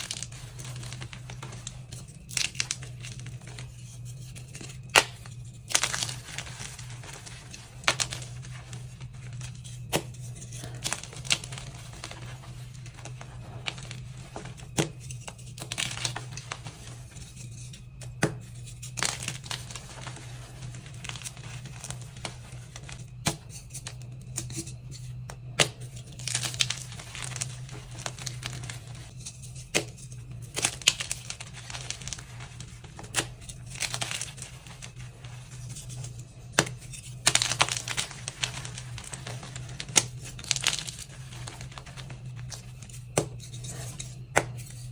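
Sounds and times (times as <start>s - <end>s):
chalk being crushed: 0.0s - 44.9s
steady low hum: 0.0s - 44.9s.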